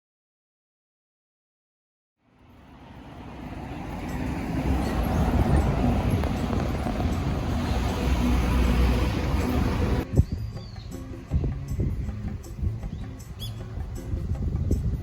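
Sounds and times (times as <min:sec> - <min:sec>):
road rumble: 0:02.2 - 0:15.0.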